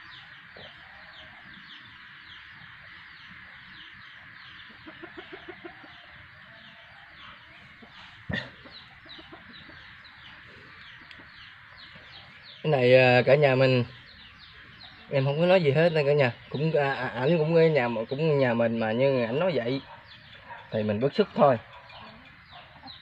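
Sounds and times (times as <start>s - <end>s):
chicks peeping: 0.0s - 23.0s
chicken clucking: 0.5s - 12.9s, 14.1s - 23.0s.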